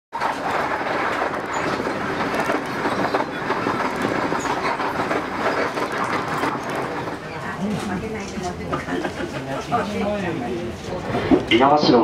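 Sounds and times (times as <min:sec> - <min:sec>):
train carriage running on rails: 0:00.1 - 0:12.0.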